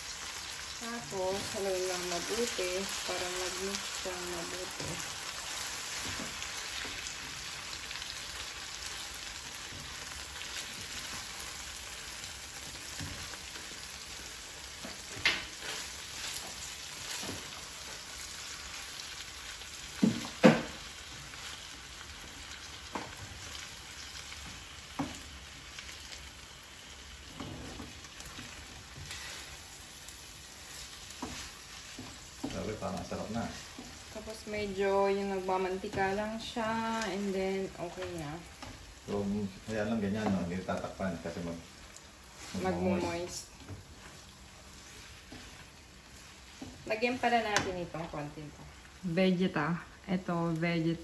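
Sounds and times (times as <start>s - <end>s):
food sizzling in a wok: 0.0s - 51.0s.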